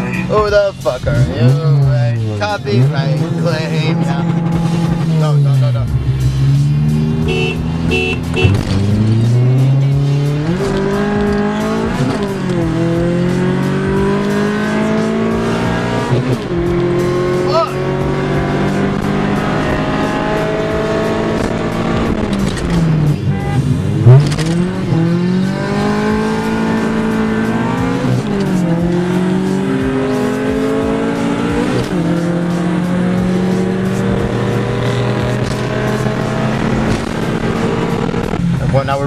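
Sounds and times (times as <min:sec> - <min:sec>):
car engine revving through gears: 0:01.0 - 0:39.0.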